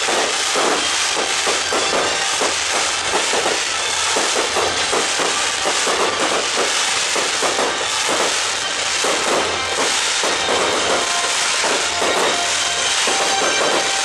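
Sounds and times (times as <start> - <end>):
fireworks crackling and popping: 0.0 - 14.0
music: 0.0 - 14.0.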